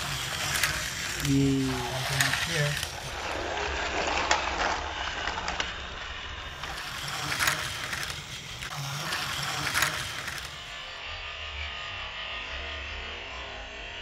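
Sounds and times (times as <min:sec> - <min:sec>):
toy train motor whirring: 0:00.0 - 0:14.0.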